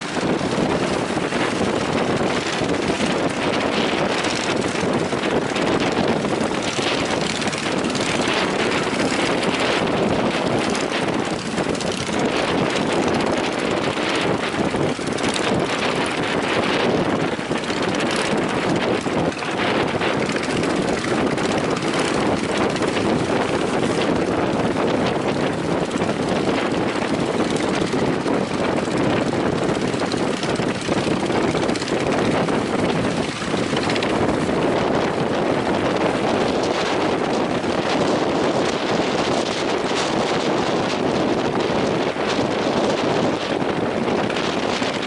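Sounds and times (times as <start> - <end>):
strong wind: 0.0 - 45.0.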